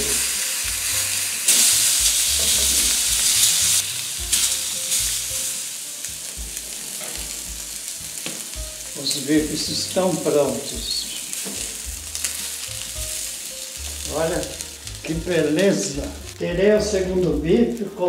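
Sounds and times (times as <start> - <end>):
steak sizzling in frying pan: 0.0 - 18.0.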